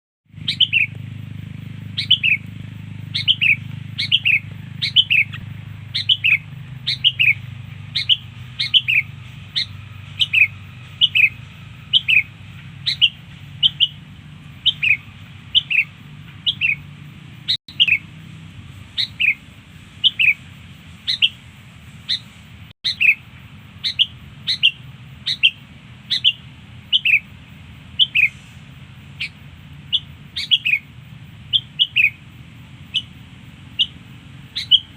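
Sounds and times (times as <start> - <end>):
bulbul chirping: 0.4 - 18.2, 18.8 - 21.4, 22.0 - 27.3, 27.9 - 28.5, 29.1 - 32.2, 32.8 - 34.9.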